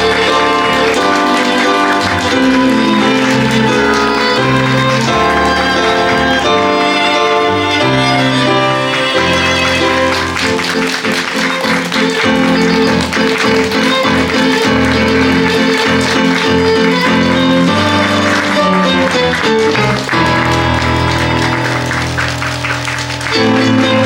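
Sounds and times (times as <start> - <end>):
audience applause: 0.0 - 24.0
live band playing: 0.0 - 24.0.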